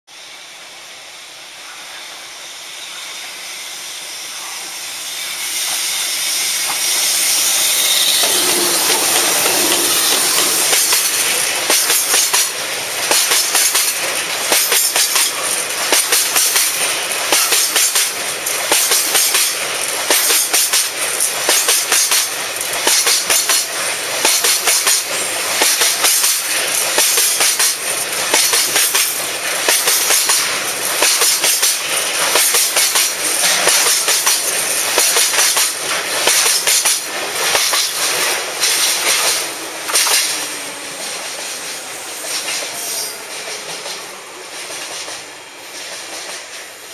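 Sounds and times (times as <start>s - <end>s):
freight train rolling past: 0.1s - 46.9s.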